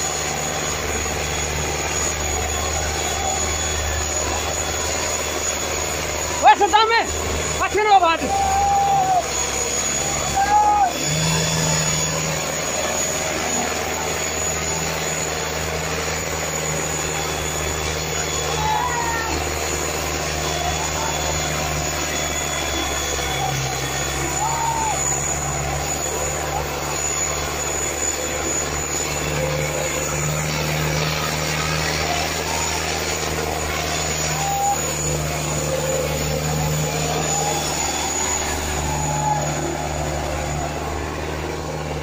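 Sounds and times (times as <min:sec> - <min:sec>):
tractor diesel engine droning: 0:00.0 - 0:42.0.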